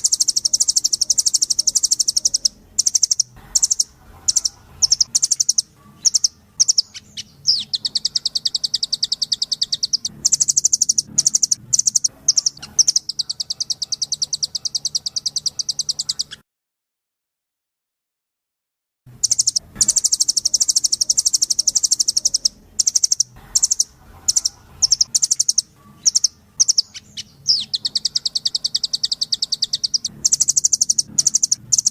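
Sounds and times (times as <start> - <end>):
bird singing rapid trill: 0.0 - 16.4, 19.1 - 31.9.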